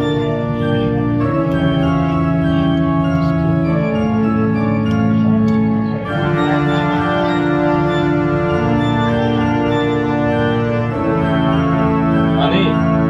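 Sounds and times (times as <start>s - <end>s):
organ-like chords: 0.0s - 13.0s.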